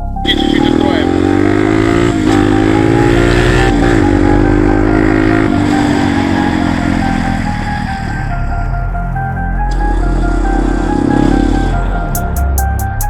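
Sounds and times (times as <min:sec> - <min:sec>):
dirt bike engine running: 0:00.2 - 0:13.0.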